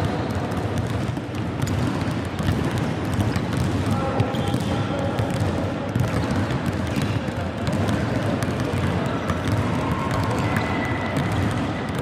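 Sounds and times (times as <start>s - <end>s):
balls bouncing on wooden floor: 0.0s - 12.0s.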